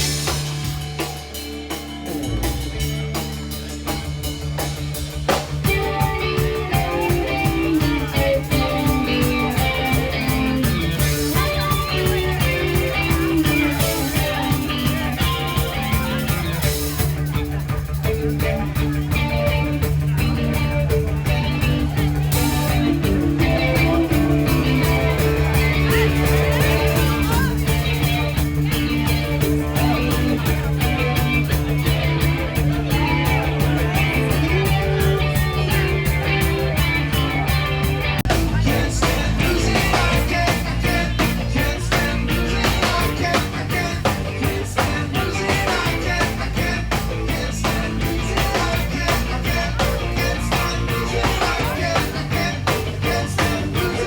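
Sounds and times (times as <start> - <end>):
rock music with guitar and bass: 0.0 - 54.0.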